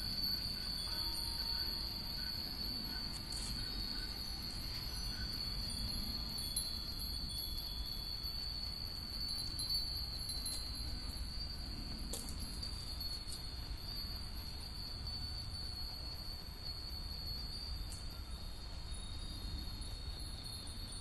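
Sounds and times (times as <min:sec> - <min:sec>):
wind bells tinkling: 0:00.0 - 0:21.0.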